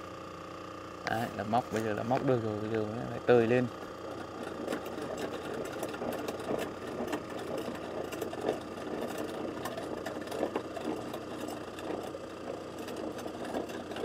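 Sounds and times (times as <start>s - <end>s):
motorized winch whirring: 1.6s - 14.0s.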